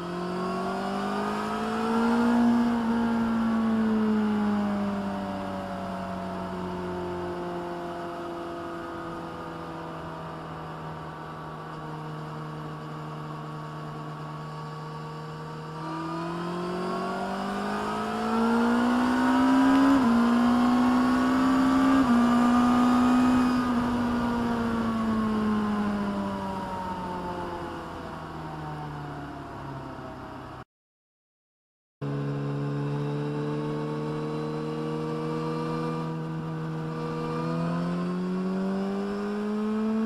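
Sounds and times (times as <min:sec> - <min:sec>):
motorcycle engine accelerating: 0:00.0 - 0:30.6, 0:32.0 - 0:40.0.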